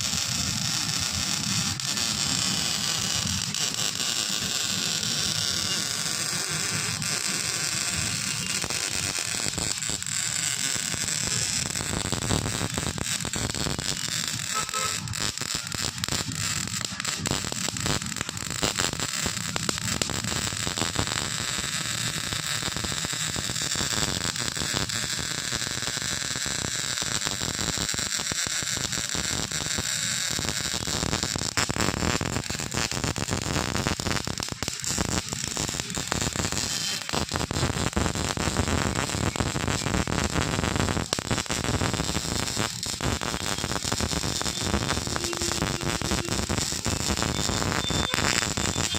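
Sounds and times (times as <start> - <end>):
electric arc welding crackle: 0.0 - 48.9.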